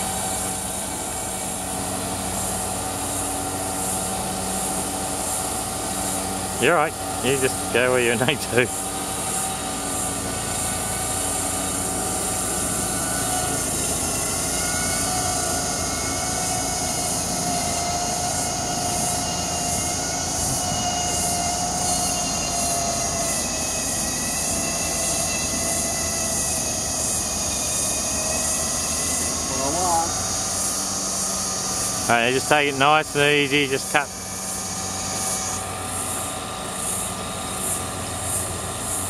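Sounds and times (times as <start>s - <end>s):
flail mower cutting grass: 0.0s - 39.0s.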